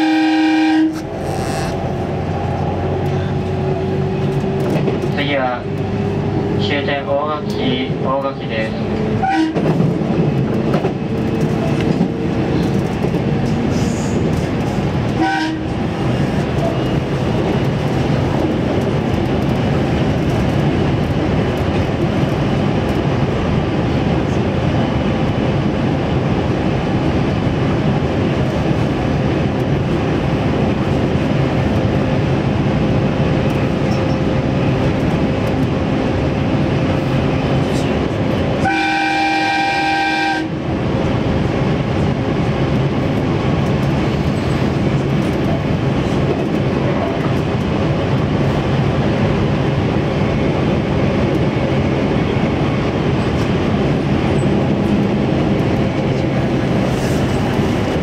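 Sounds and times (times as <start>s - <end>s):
electric train running on rails: 0.0s - 58.0s.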